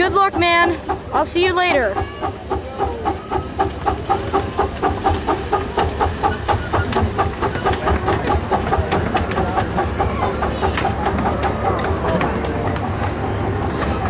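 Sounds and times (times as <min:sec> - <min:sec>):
miniature steam train chuffing: 0:00.0 - 0:14.0.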